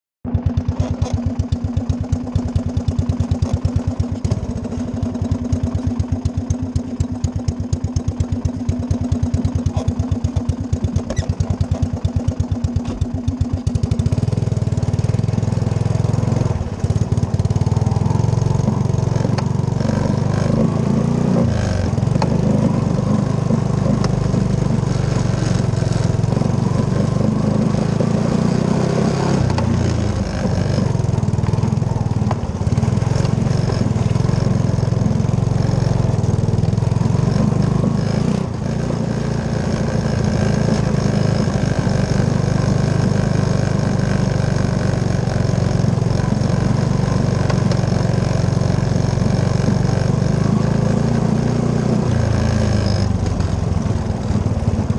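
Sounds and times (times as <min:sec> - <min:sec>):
atv engine idling and revving: 0:00.2 - 0:54.9.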